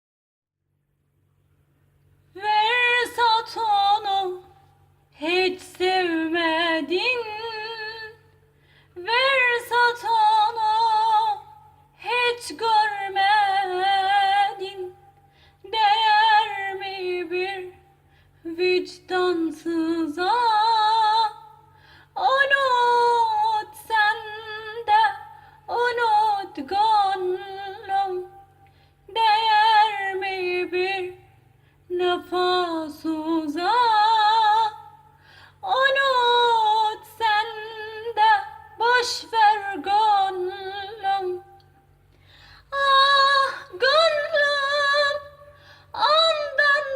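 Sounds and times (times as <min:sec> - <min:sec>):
woman singing unaccompanied: 0:02.3 - 0:08.3, 0:09.0 - 0:41.7, 0:42.7 - 0:46.9.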